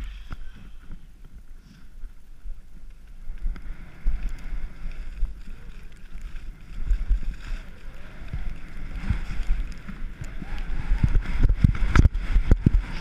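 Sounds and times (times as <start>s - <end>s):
skis sliding over snow: 0.0s - 13.0s
wind buffeting microphone: 0.0s - 13.0s.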